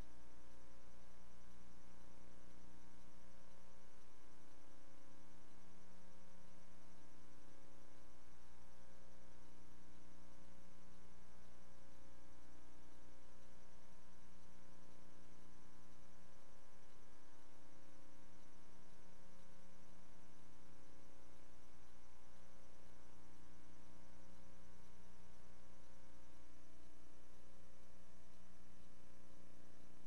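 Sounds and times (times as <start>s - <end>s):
faint hiss: 0.0s - 30.0s.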